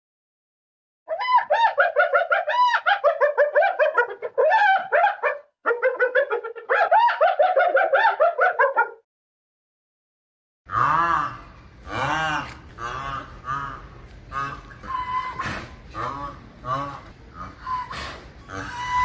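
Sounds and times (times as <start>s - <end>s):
animal high-pitched calls: 1.1s - 8.8s, 10.8s - 19.0s.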